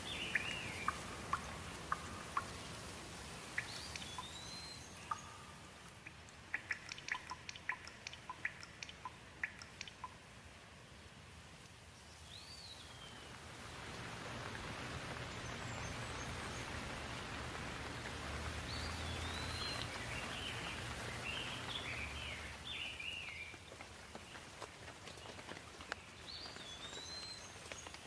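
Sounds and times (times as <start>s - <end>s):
birds singing: 0.0s - 2.8s, 3.4s - 10.2s, 12.0s - 13.4s, 15.3s - 28.0s
rushing water: 0.0s - 28.0s.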